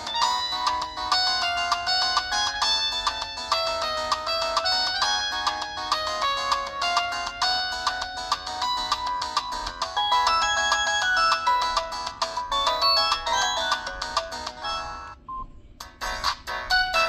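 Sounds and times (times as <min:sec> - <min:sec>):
electronic phone ringtone melody: 0:00.0 - 0:15.4, 0:16.0 - 0:17.0.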